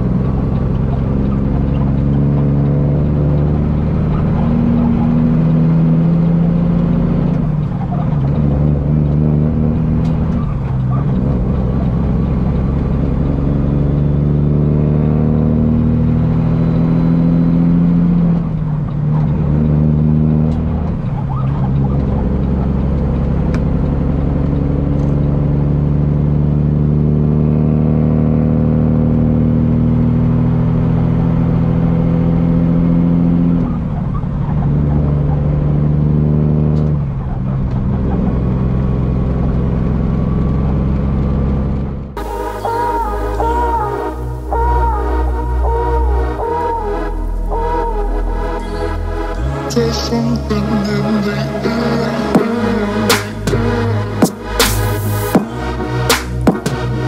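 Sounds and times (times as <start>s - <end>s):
diesel truck engine shifting gears: 0.0s - 57.0s.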